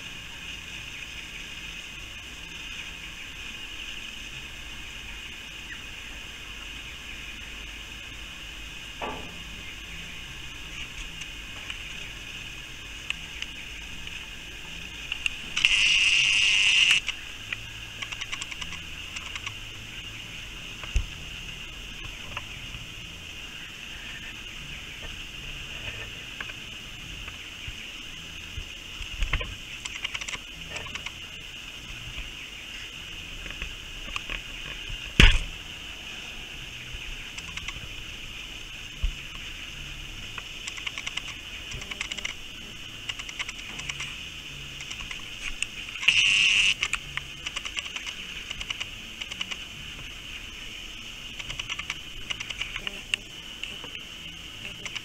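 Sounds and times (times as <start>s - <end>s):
high-pitched background drone: 0.0s - 55.0s.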